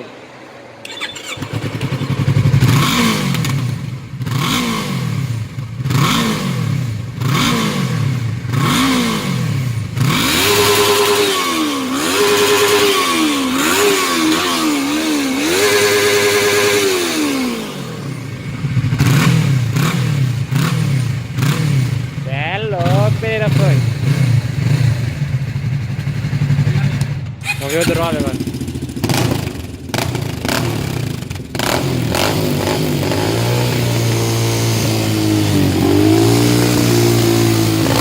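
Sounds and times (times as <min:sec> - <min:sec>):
motorcycle engine revving: 0:00.8 - 0:38.0.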